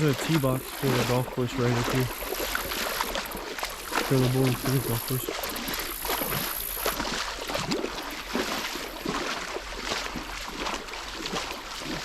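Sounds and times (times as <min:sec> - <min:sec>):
river water splashing: 0:00.0 - 0:12.0.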